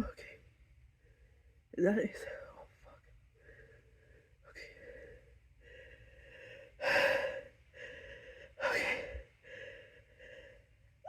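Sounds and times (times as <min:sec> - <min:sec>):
faint breathing: 0:00.0 - 0:11.0.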